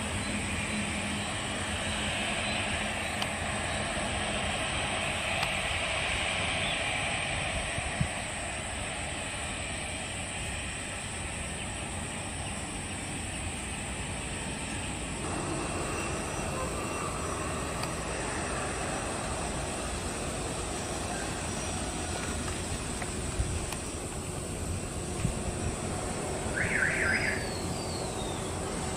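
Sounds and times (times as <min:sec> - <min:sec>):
jet engines rolling on wet runway: 0:00.0 - 0:28.9
turboprop airplane climbing: 0:00.0 - 0:28.9.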